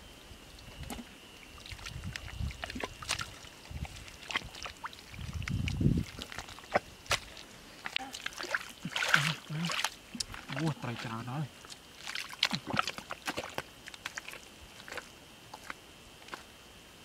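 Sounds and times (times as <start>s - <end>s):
hands squelching in wet mud: 1.6s - 16.5s.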